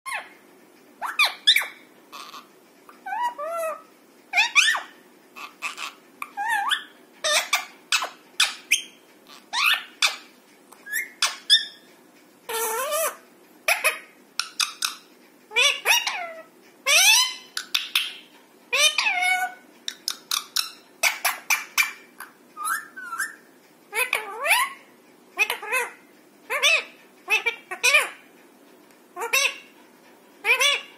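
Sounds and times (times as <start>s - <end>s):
parakeets squawking: 1.0s - 10.3s, 10.9s - 11.9s, 12.5s - 24.8s, 25.4s - 28.2s, 29.2s - 29.8s, 30.4s - 30.9s.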